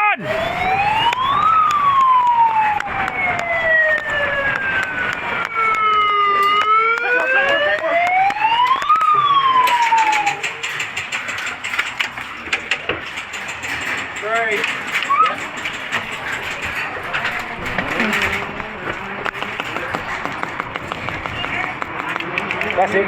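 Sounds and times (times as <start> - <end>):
siren wailing: 0.0 - 11.4, 15.0 - 23.0
sharp cracks: 0.0 - 23.0.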